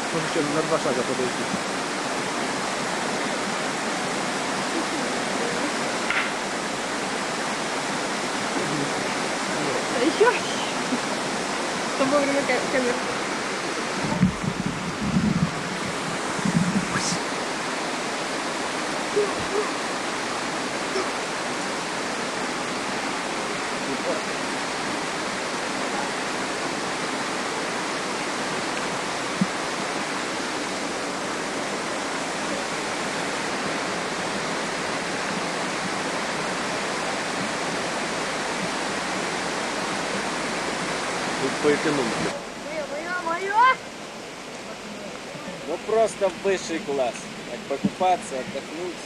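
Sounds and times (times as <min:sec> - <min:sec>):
waterfall roaring: 0:00.0 - 0:49.0.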